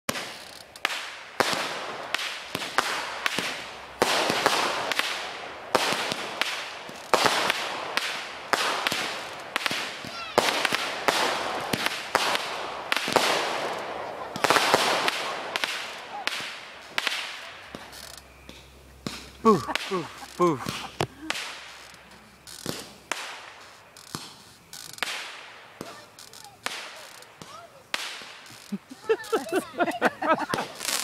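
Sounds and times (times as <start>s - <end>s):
fireworks bangs: 0.1s - 31.0s
fireworks hissing: 0.1s - 31.0s.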